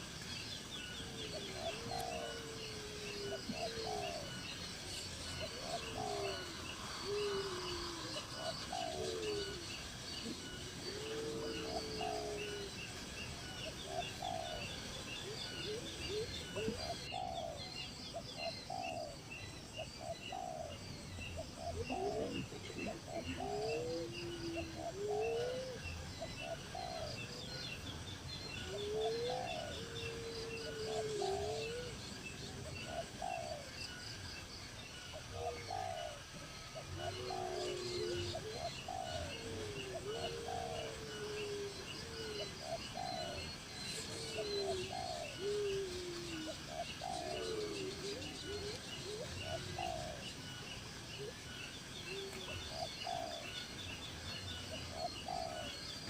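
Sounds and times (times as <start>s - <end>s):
bird cooing calls: 0.0s - 56.0s
small birds chirping: 0.0s - 56.0s.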